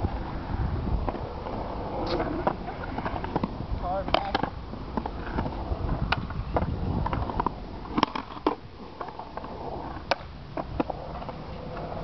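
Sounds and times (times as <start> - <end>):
skateboard wheels rolling on concrete: 0.0 - 12.0
skateboard clacks: 1.0 - 12.0.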